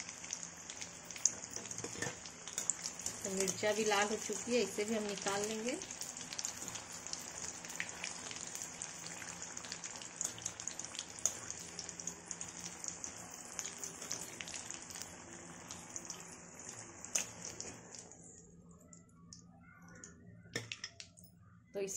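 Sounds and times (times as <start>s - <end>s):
chillies sizzling in hot oil: 0.0s - 18.1s.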